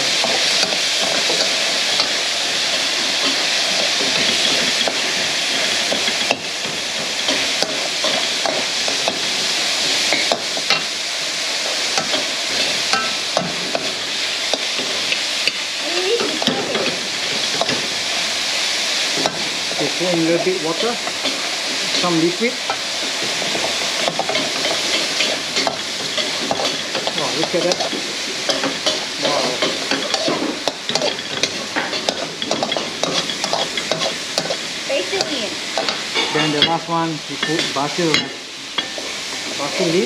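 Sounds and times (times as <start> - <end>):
food sizzling in a wok: 0.0 - 40.0
metal tongs scraping a wok: 0.2 - 10.9, 11.6 - 15.6, 19.1 - 34.6, 35.2 - 39.2.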